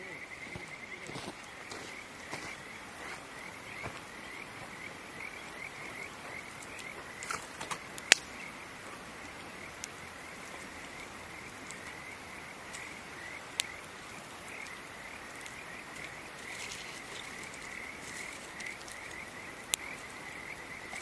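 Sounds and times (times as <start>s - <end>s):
high-pitched insect drone: 0.0s - 21.0s
campfire crackling and popping: 0.1s - 21.0s.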